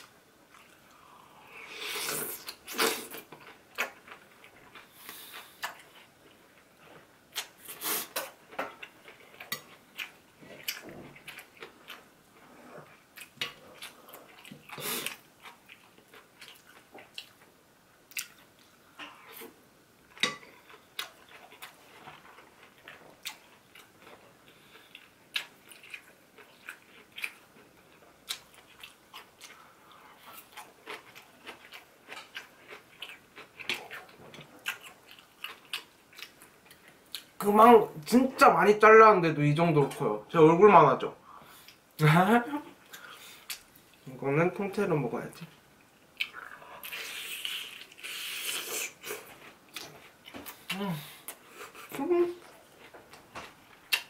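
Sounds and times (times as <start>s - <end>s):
chewing crispy fried food: 2.4s - 38.1s, 45.4s - 54.0s.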